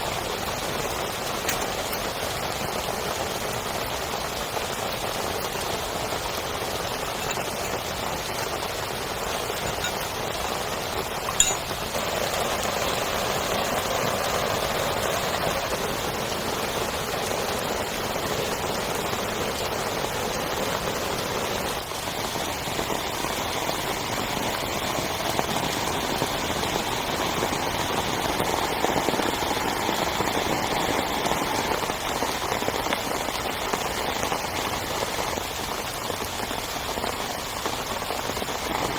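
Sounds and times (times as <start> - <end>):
rain pattering on a tent: 0.0 - 38.9.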